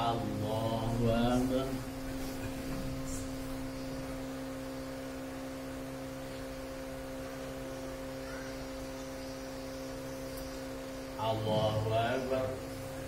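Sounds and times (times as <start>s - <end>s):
electrical hum: 0.0s - 13.0s
faint room noise: 0.0s - 13.0s.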